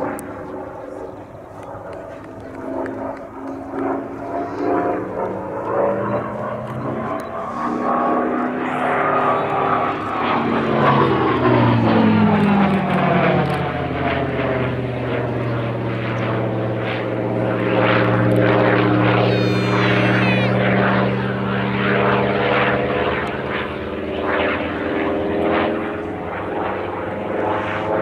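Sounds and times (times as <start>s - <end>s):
propeller aircraft engine drone: 0.0s - 28.0s.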